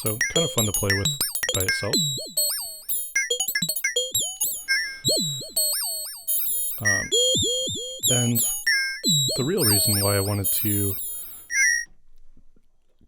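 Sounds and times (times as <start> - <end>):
synthesizer blips swooping in pitch: 0.0 - 11.8.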